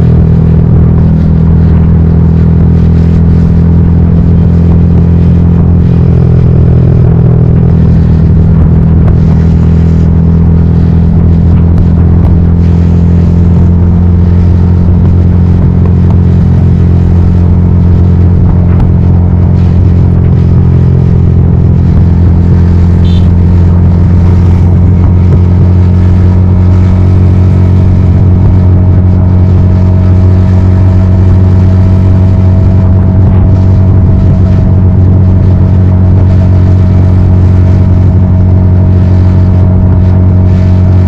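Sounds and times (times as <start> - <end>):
motorcycle engine running steadily: 0.0 - 41.0.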